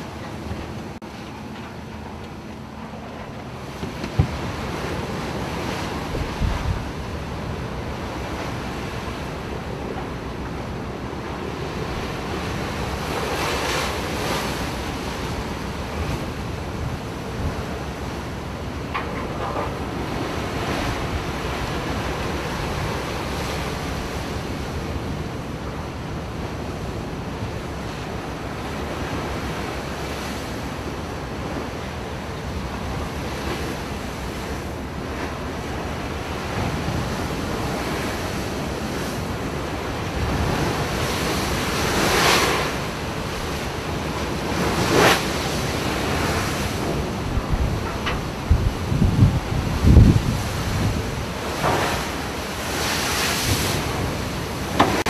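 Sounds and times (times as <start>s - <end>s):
waves washing: 0.0s - 55.0s
wind buffeting microphone: 0.0s - 55.0s.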